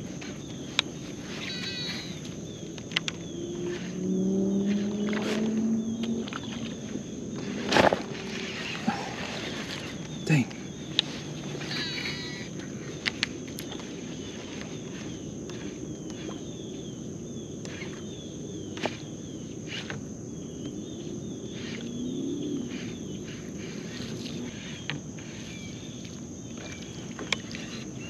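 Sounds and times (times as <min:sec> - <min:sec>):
birds chirping: 0:00.0 - 0:28.0
constant high whine: 0:00.0 - 0:28.0.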